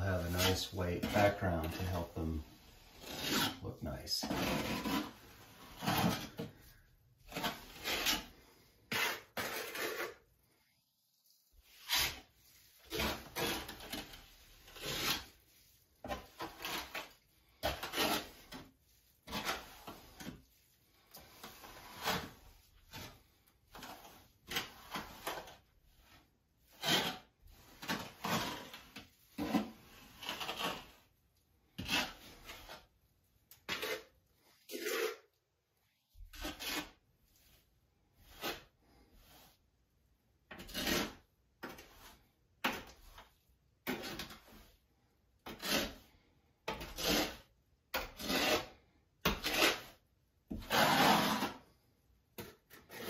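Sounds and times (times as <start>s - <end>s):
trowel scraping mortar: 0.0s - 10.4s, 11.4s - 35.4s, 36.1s - 53.0s.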